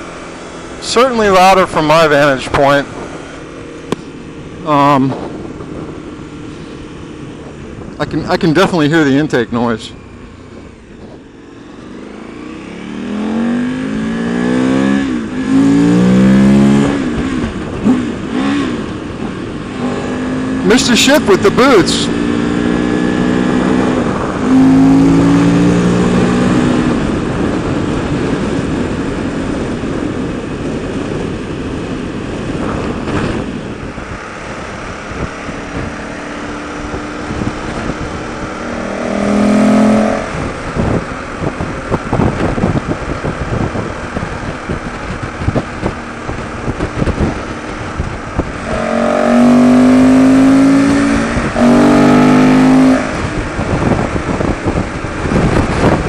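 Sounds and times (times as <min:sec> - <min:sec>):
motorcycle engine at speed: 0:00.0 - 0:56.0
wind buffeting microphone: 0:01.2 - 0:20.7, 0:22.1 - 0:56.0.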